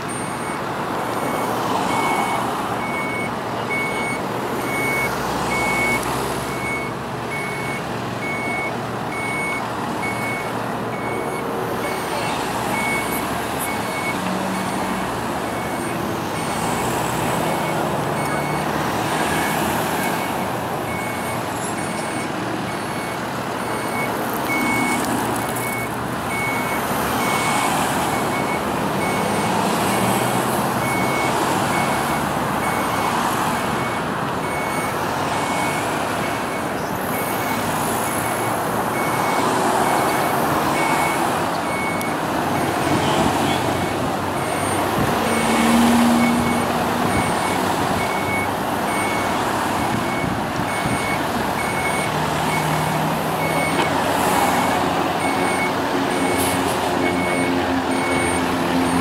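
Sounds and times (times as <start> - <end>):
high electronic warning beeps: 0.0 - 0.6, 1.2 - 16.7, 19.3 - 30.2, 30.8 - 59.0
road traffic: 0.0 - 59.0.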